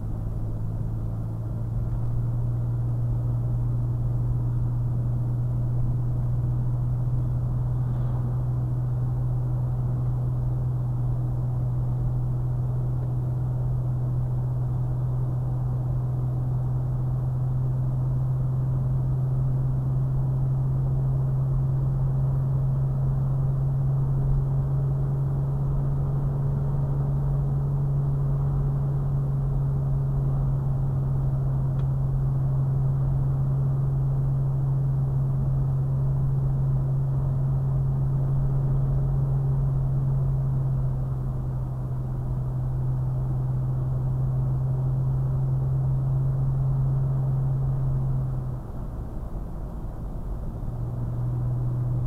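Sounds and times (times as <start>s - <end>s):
engine and drivetrain drone: 0.0s - 52.0s.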